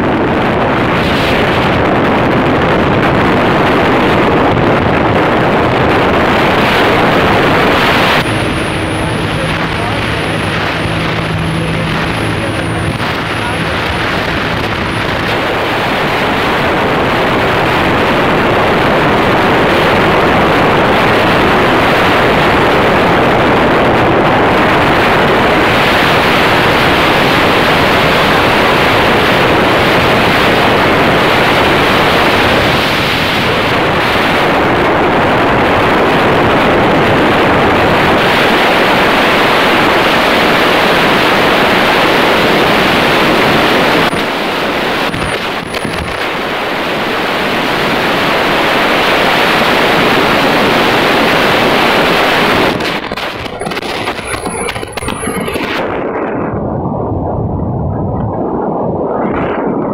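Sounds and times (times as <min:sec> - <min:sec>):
wind and road noise in tunnel: 0:00.0 - 0:59.9.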